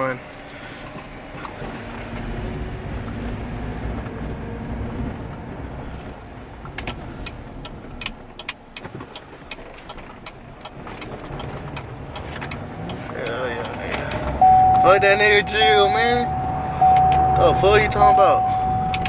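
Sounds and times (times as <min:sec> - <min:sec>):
road noise: 0:00.0 - 0:19.0
truck engine: 0:00.0 - 0:19.0.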